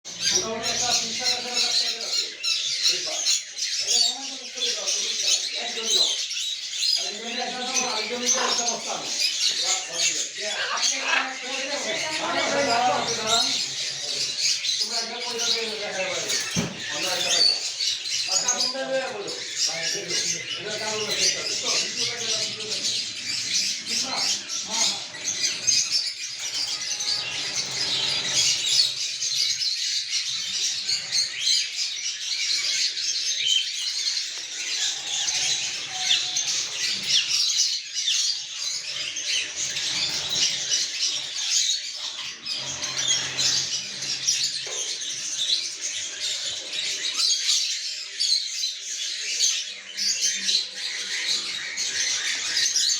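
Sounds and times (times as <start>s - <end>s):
parrots chirping and chattering: 0.0s - 52.9s.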